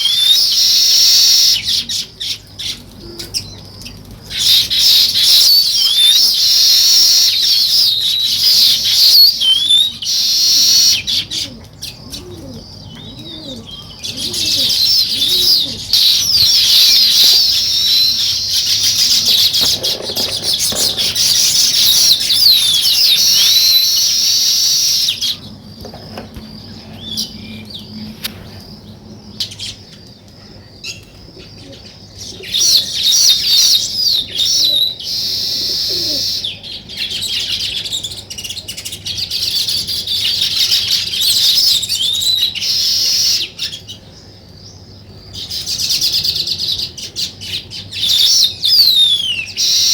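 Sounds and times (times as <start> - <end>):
flock of sparrows chirping: 0.0 - 49.9.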